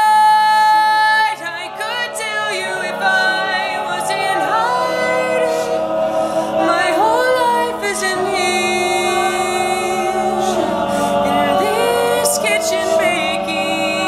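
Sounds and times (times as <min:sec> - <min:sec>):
male a cappella harmony singing: 0:00.0 - 0:14.0.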